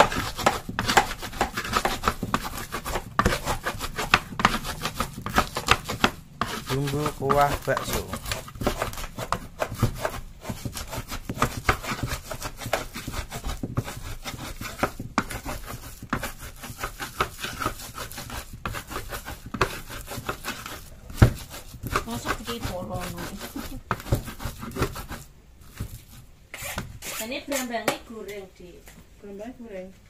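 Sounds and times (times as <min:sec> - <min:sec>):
stone pestle grinding in mortar: 0:00.0 - 0:27.7.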